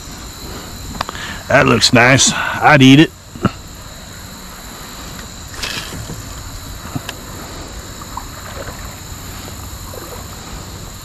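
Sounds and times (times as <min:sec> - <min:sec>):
river water: 0:00.0 - 0:11.0
wind: 0:00.0 - 0:11.0.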